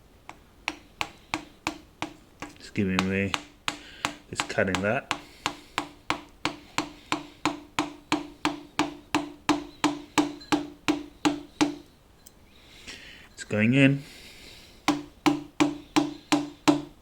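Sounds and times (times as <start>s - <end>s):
hammer tapping a knife: 0.3s - 11.9s, 14.9s - 17.0s.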